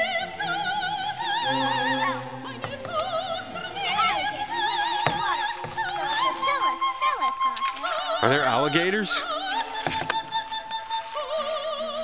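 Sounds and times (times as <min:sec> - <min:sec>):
operatic singing: 0:00.0 - 0:12.0.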